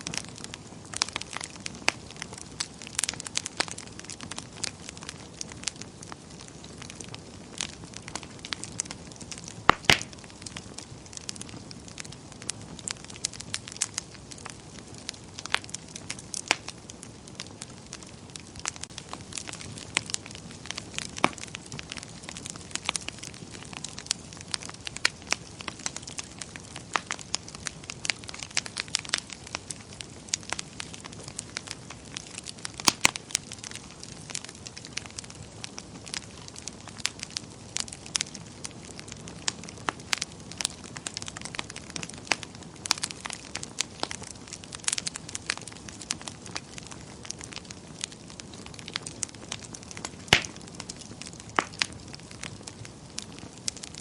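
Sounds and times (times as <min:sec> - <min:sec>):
low fire hiss: 0:00.0 - 0:54.0
wood fire crackling and popping: 0:00.0 - 0:54.0.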